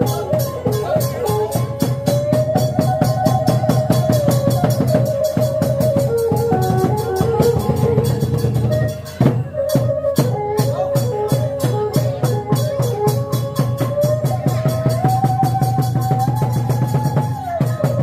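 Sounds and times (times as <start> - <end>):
wavering held melody: 0.0 - 18.0.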